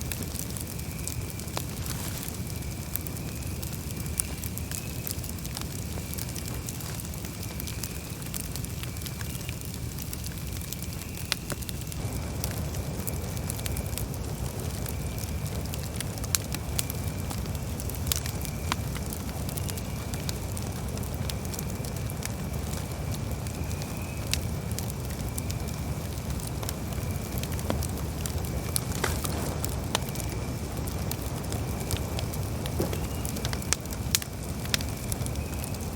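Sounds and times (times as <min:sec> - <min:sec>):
campfire crackling and popping: 0:00.0 - 0:35.9
low fire rumble: 0:00.0 - 0:35.9.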